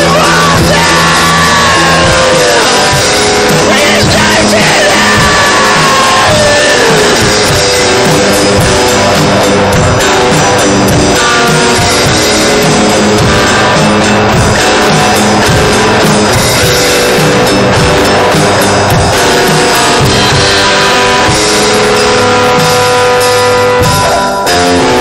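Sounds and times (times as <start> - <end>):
distorted extreme metal music: 0.0 - 25.0.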